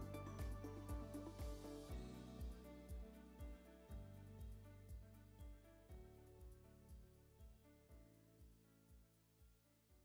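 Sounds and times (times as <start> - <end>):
quiet background music with beat: 0.0 - 9.6.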